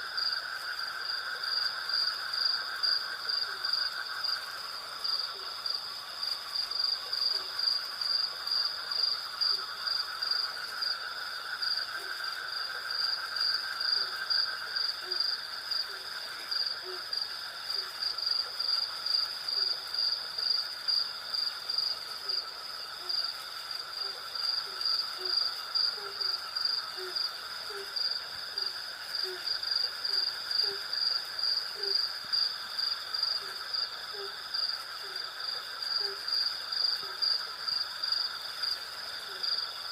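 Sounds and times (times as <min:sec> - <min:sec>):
crickets chirping: 0:00.0 - 0:39.9
low insect trill: 0:00.0 - 0:39.9.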